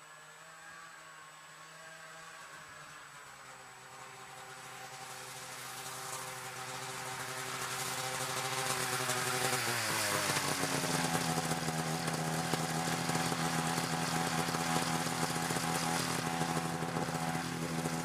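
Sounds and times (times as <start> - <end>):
snowmobile engine idling: 3.4 - 18.0.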